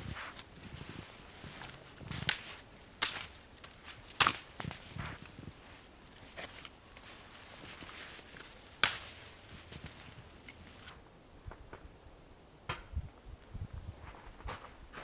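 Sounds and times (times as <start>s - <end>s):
light rustles and crunches: 0.0s - 11.9s, 13.4s - 15.0s.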